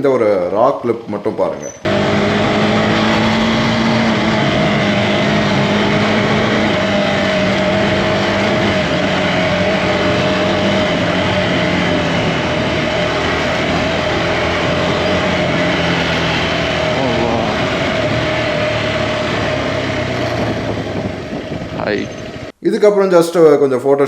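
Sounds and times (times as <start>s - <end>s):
wind and road noise: 1.3s - 22.6s
motorcycle engine running: 1.8s - 22.5s.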